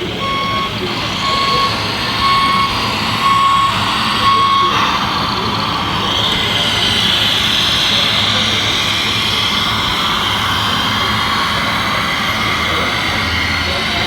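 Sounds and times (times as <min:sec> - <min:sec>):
high-pitched motor whine: 0:00.0 - 0:14.0.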